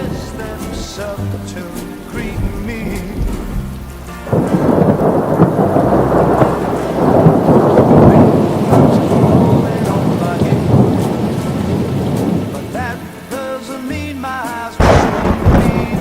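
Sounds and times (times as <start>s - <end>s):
thunder rumbling: 0.0s - 13.9s, 14.8s - 16.0s
song: 0.0s - 16.0s.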